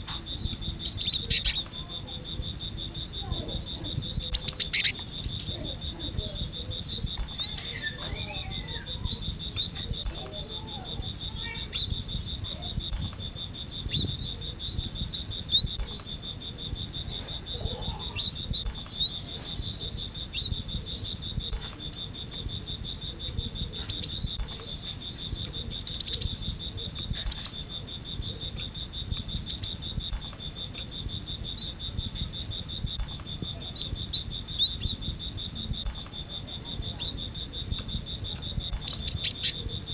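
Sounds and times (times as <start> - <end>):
bird chirping: 0.0 - 39.9
high insect hum: 0.0 - 39.9.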